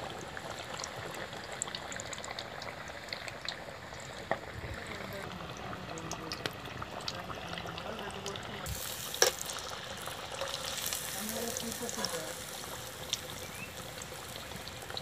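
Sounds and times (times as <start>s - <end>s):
fish deep-frying in hot oil: 0.0s - 15.0s
oil popping: 0.2s - 15.0s.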